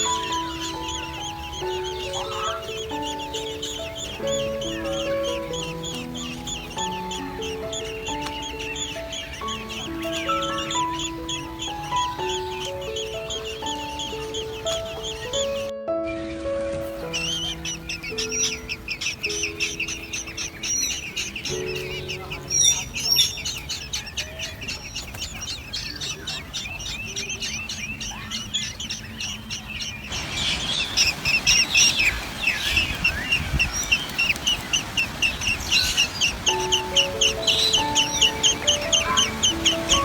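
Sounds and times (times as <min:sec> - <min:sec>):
background music: 0:00.0 - 0:29.3, 0:35.5 - 0:40.0
nestlings begging chirps: 0:00.0 - 0:40.0.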